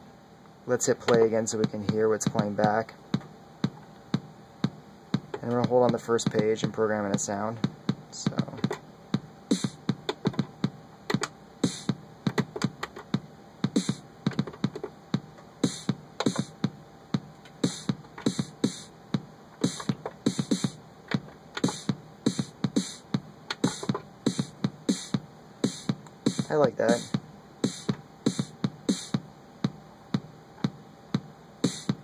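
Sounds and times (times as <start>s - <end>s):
drum machine kick drum: 0.9s - 32.0s
drum machine snare hits: 1.0s - 32.0s.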